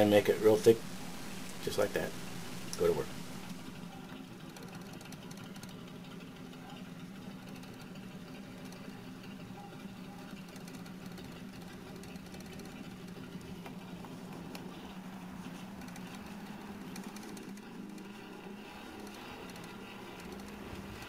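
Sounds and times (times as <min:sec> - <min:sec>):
constant low hum: 0:00.0 - 0:21.0.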